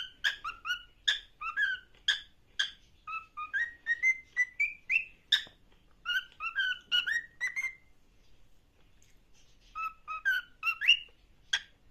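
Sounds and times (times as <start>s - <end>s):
parrot squawks: 0.0s - 7.9s, 9.7s - 11.9s
parrot whistling: 0.0s - 7.9s, 9.7s - 11.7s.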